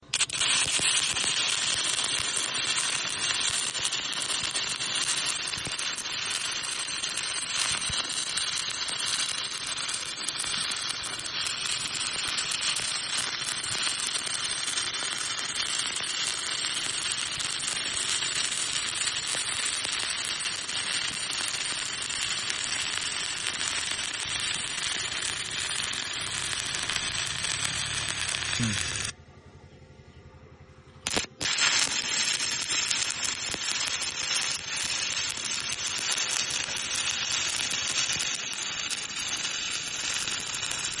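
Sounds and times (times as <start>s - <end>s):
welding arc crackling: 0.0s - 29.2s, 31.0s - 41.0s.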